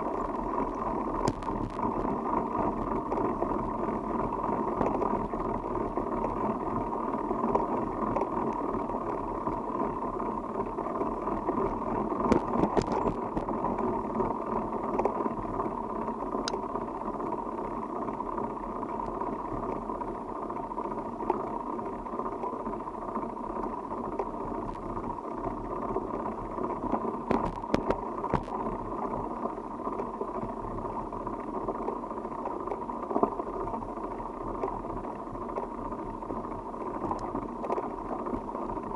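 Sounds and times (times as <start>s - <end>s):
bicycle clicks and rattles: 0.0s - 38.9s
bicycle tyres rolling: 0.0s - 38.9s.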